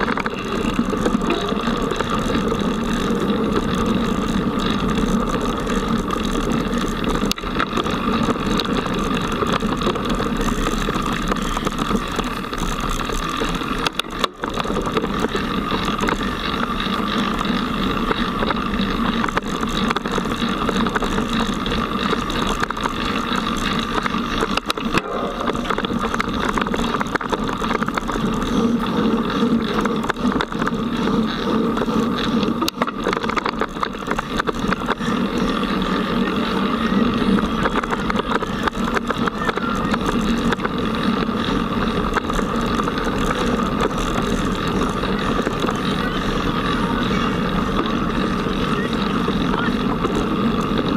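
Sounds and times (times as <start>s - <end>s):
bike rattling on dirt trail: 0.0s - 50.9s.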